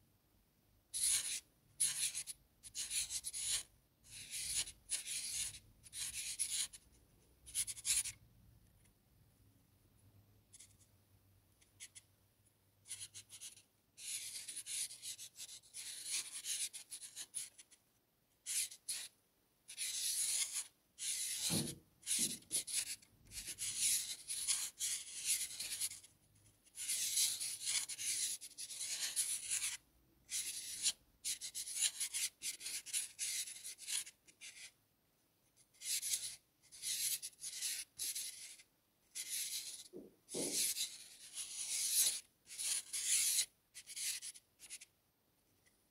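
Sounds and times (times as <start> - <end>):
marker pen scratching on paper: 0.9 - 8.8, 10.5 - 10.9, 11.6 - 12.1, 12.8 - 17.8, 18.4 - 34.8, 35.5 - 44.9.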